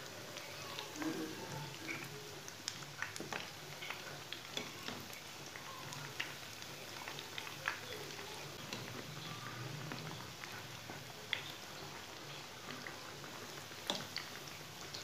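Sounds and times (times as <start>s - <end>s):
food deep-frying in oil: 0.0s - 15.0s
oil popping and crackling: 0.0s - 15.0s.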